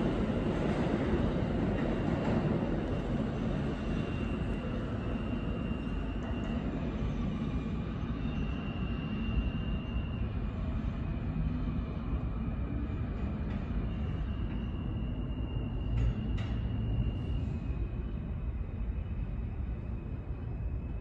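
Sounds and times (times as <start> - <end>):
subway train rumble: 0.0 - 21.0
faint high wheel squeal: 0.9 - 21.0.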